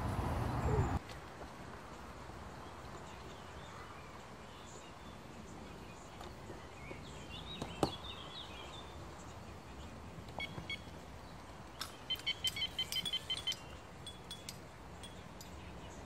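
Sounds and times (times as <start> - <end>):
bird chirping: 3.0 - 16.0.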